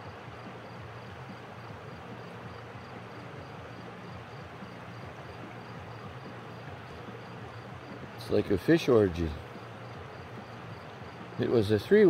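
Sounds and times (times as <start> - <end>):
faint high insect chirp: 0.0 - 12.0.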